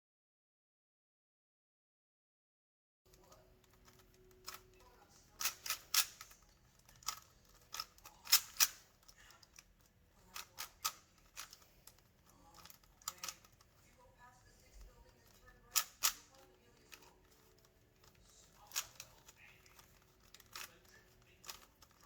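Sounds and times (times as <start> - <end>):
plastic puzzle cube clicks: 3.2 - 13.6, 14.7 - 22.0.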